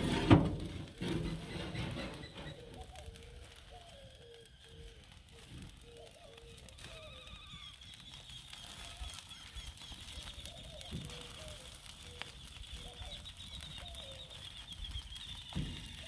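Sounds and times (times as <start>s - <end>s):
birds cooing: 1.3s - 16.0s.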